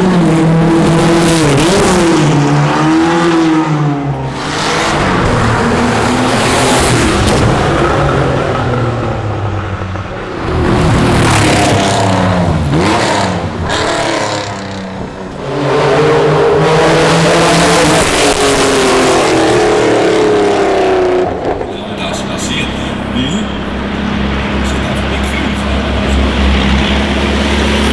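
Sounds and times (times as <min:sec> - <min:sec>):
racing car engines revving: 0:00.0 - 0:27.9.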